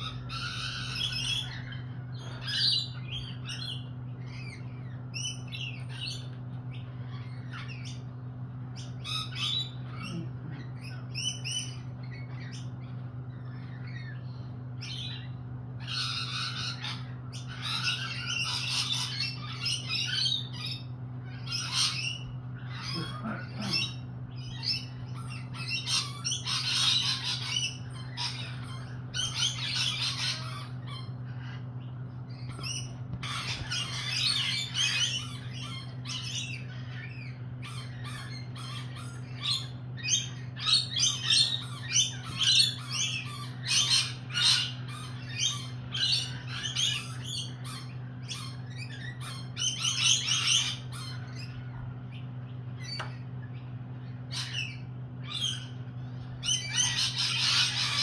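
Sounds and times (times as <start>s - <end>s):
parrots screeching: 0.0s - 58.0s.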